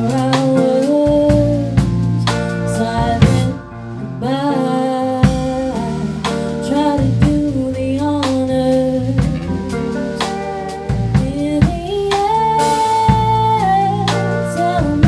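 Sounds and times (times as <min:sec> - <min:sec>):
bass guitar: 0:00.0 - 0:15.0
drum kit: 0:00.0 - 0:15.0
electric guitar: 0:00.0 - 0:15.0
woman singing: 0:00.0 - 0:15.0.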